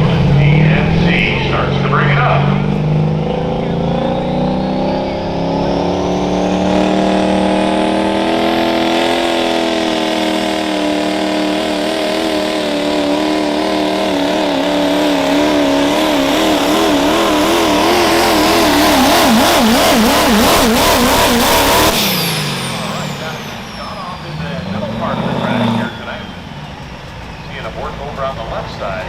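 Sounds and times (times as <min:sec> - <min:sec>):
truck engine revving under load: 0:00.0 - 0:29.0.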